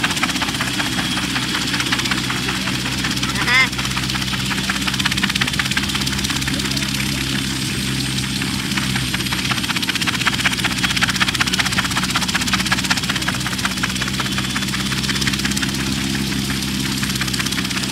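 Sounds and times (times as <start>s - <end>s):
helicopter engine drone: 0.0s - 17.9s
helicopter rotor chop: 0.0s - 17.9s.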